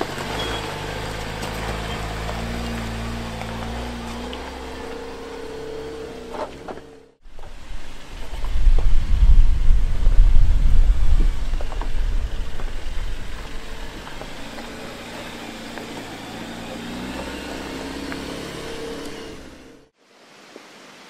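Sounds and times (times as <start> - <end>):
off-road vehicle engine rumbling: 0.0 - 20.0.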